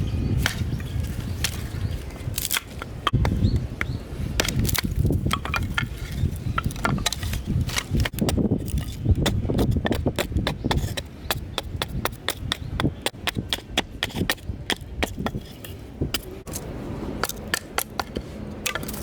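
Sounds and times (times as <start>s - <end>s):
mallet splitting firewood: 1.4s - 19.0s.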